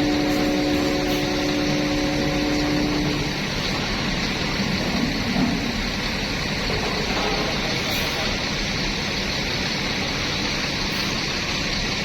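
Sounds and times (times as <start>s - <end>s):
bus engine running: 0.0s - 12.0s
road traffic: 0.0s - 12.0s.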